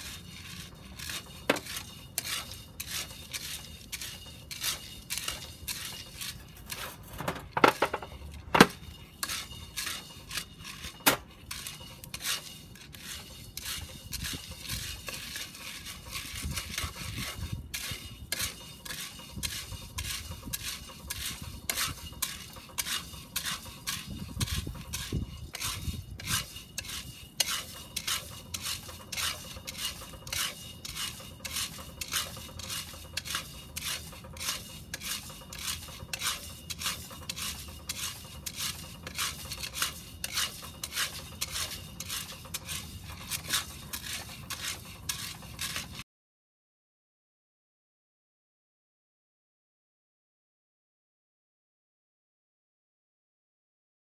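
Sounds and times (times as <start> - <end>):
coffee beans rattling in iron pot: 0.0 - 46.0.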